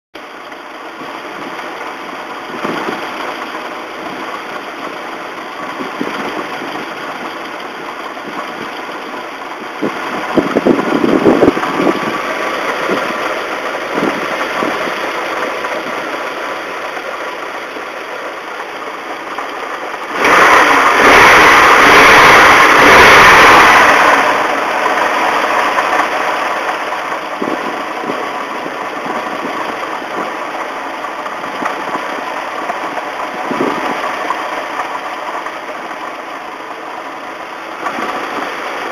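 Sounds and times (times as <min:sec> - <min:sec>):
car engine idling with knock: 0:00.2 - 0:38.9
car engine revving: 0:00.2 - 0:38.9.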